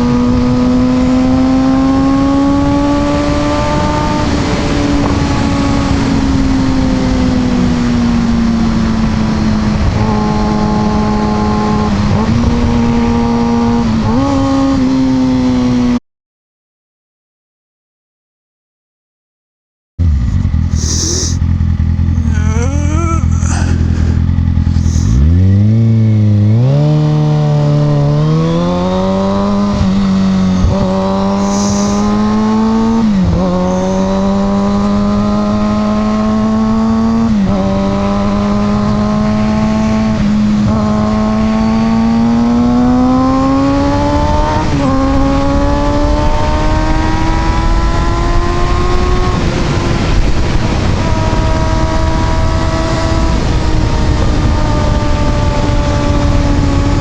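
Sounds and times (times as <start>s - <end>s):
motorcycle engine accelerating: 0.0s - 16.0s, 20.0s - 57.0s.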